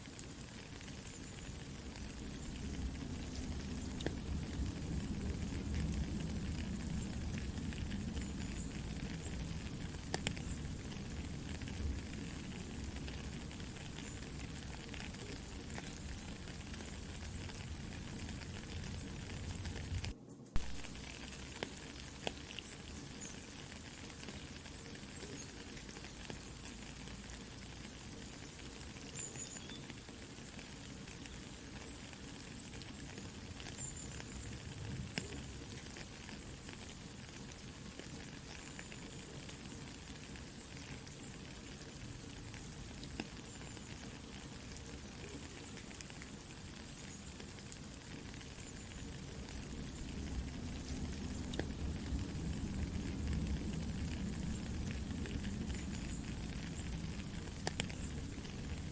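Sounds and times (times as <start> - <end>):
campfire crackling: 0.0 - 58.9
soft rain: 0.0 - 58.9.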